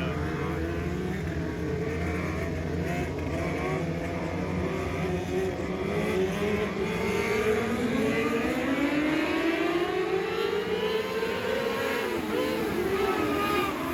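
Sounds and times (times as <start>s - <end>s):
race car engine accelerating: 0.0s - 13.9s.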